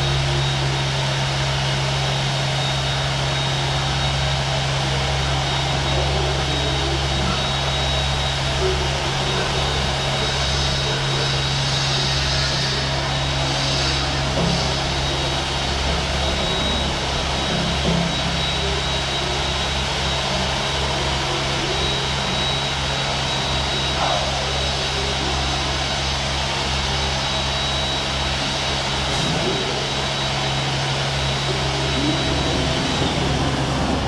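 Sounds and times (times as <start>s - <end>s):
stone polishing machine running: 0.0s - 34.0s.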